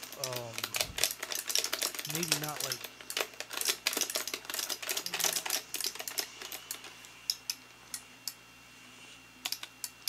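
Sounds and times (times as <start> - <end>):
quick irregular clicks and taps: 0.0 - 8.4, 9.4 - 10.0.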